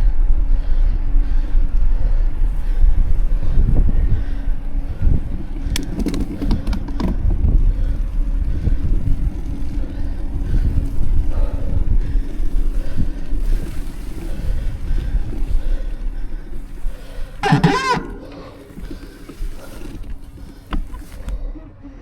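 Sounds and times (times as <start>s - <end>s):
bike tyres rumbling on path: 0.0s - 21.7s
wind buffeting microphone: 0.0s - 21.9s
faint steady hum: 0.0s - 22.0s.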